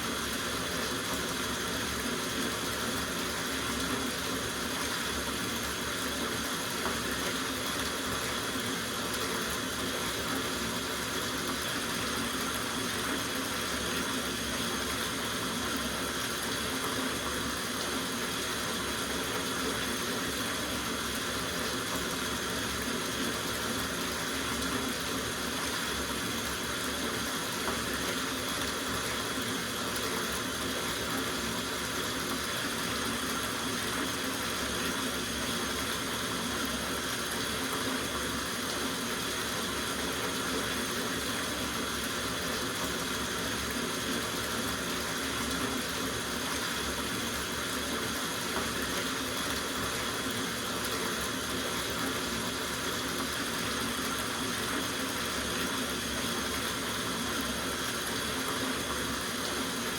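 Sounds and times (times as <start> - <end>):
tap water running into bathtub: 0.0 - 59.9.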